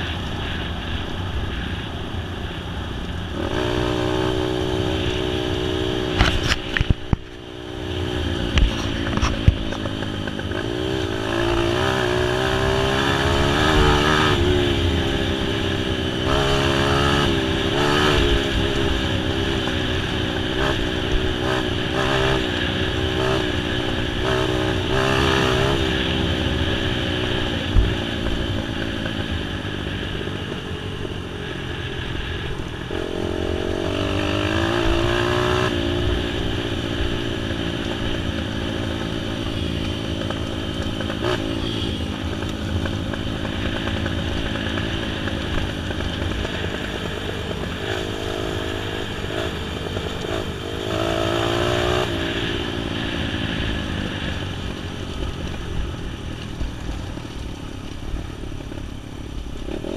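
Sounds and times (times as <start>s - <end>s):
motorcycle engine revving: 2.4s - 59.9s.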